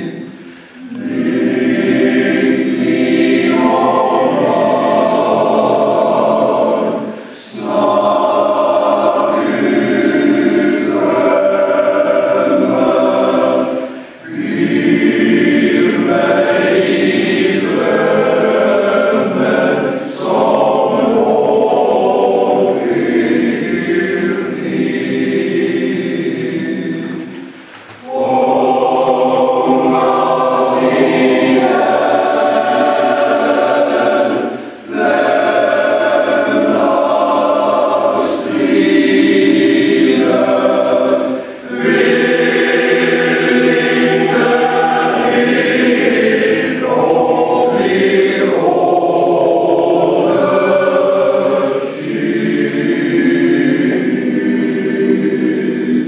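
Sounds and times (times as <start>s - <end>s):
men's choir singing: 0.0s - 56.0s.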